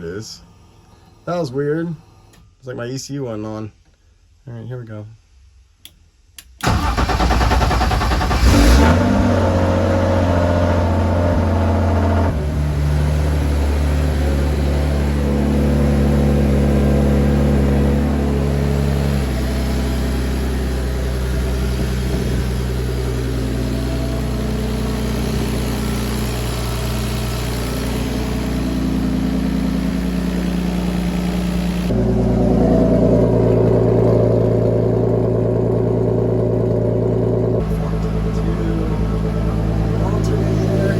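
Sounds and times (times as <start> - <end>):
car engine cranking and idling: 6.4 - 40.9.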